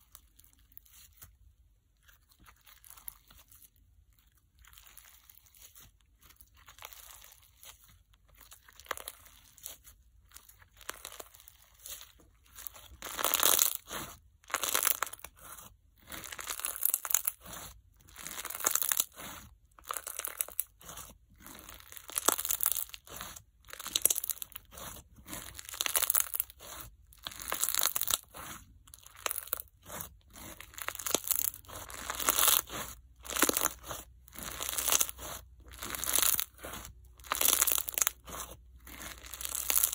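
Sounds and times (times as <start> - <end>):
crunchy slime squeezed by hand: 2.0 - 39.9.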